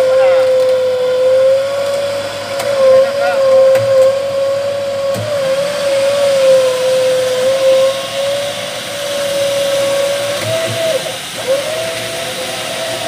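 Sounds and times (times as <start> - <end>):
electric winch motor whining: 0.0 - 13.0.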